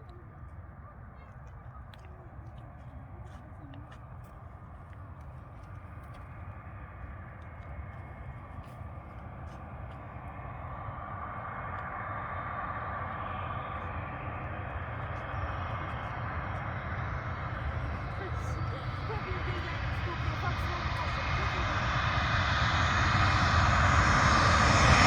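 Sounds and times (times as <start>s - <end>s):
jet airliner approaching: 0.0s - 25.0s.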